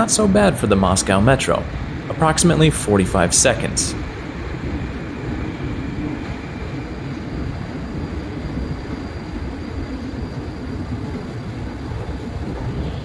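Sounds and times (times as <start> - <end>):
escalator machinery rumbling: 0.0 - 13.0.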